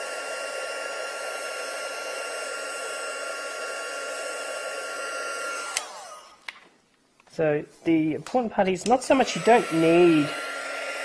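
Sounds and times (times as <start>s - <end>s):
heat gun blowing air: 0.0s - 6.6s, 8.3s - 11.0s.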